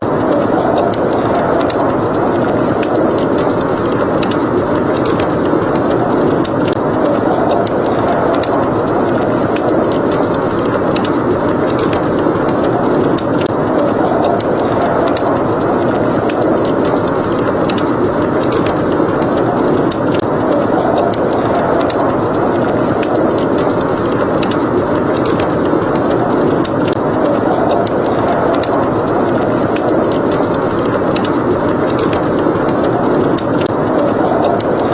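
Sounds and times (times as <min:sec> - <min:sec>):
blizzard wind rushing: 0:00.0 - 0:34.9
wood fire crackling and popping: 0:00.0 - 0:34.9.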